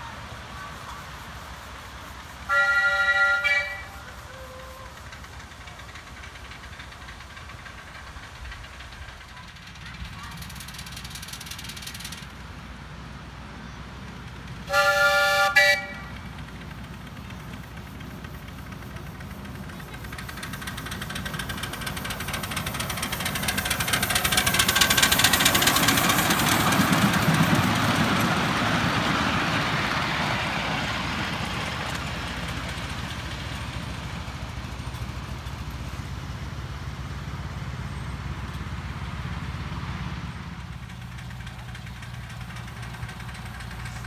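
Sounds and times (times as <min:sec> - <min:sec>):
miniature steam locomotive passing: 0:00.0 - 0:44.0.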